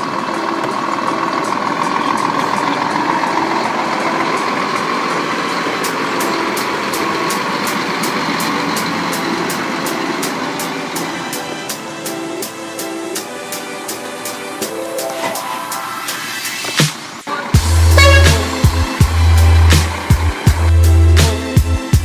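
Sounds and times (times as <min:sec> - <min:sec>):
truck diesel engine running: 0:00.0 - 0:16.0, 0:17.0 - 0:22.0.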